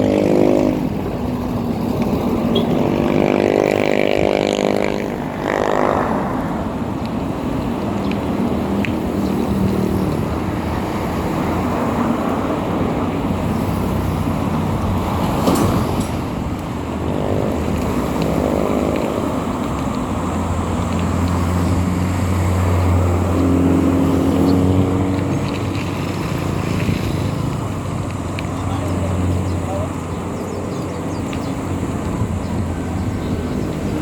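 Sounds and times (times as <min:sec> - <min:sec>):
road noise: 0:00.0 - 0:34.0
vehicle engine drone: 0:00.0 - 0:34.0.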